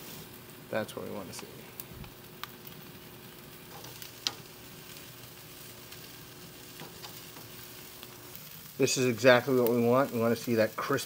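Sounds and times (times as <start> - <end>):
meat sizzling on a grill: 0.0 - 11.0
sharp crackles: 0.0 - 11.0.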